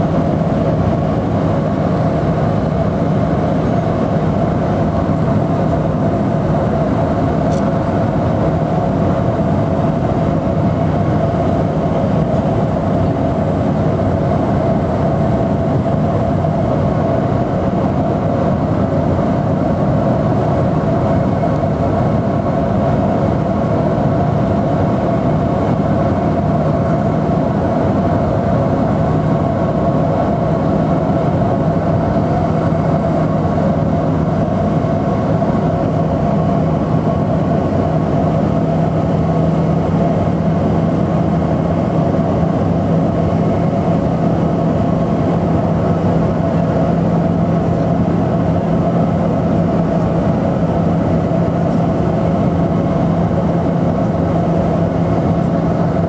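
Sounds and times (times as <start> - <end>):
turboprop cabin drone: 0.0 - 56.0.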